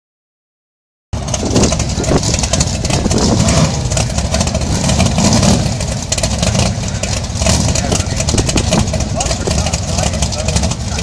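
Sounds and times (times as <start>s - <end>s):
loud rough race car engines: 1.2s - 11.0s.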